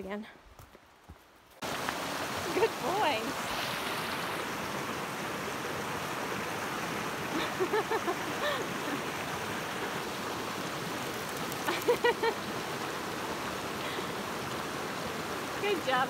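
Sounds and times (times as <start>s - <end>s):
rocky stream rushing: 1.5s - 16.0s.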